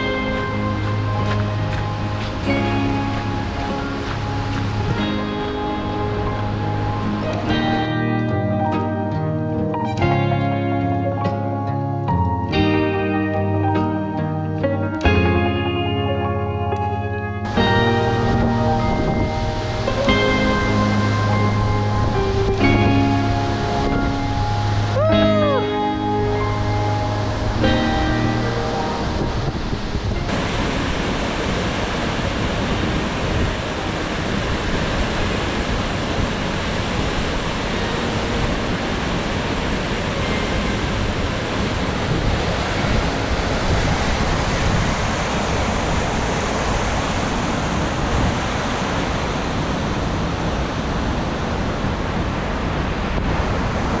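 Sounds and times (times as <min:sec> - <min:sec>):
waterfall rushing: 0:00.0 - 0:08.8, 0:17.4 - 0:54.0.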